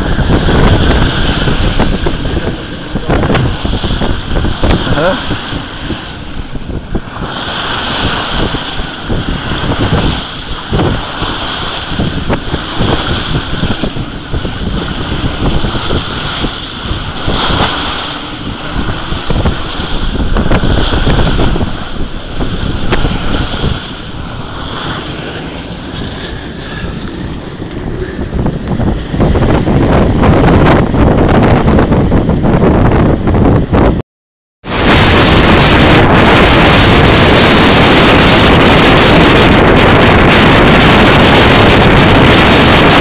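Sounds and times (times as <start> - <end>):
water splashing along boat hull: 0.0 - 34.0, 34.6 - 43.0
wind buffeting microphone: 0.0 - 34.0, 34.6 - 43.0.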